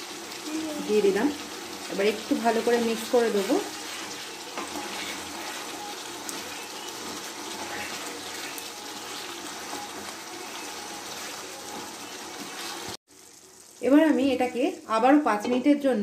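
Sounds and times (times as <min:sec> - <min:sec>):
spatula stirring in pan: 0:00.0 - 0:13.0
curry bubbling and sizzling: 0:00.0 - 0:15.5.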